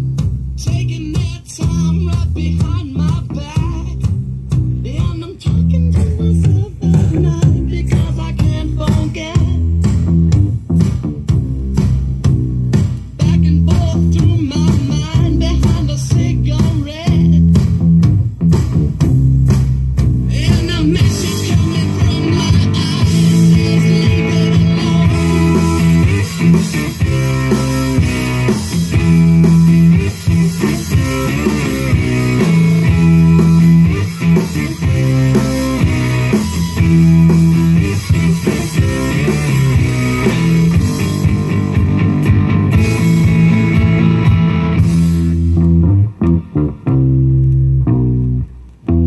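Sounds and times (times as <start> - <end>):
rock music through speakers: 0.0 - 49.0.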